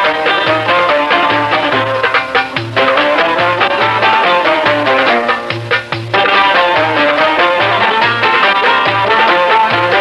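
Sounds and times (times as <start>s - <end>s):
quick busy melody: 0.0s - 10.0s.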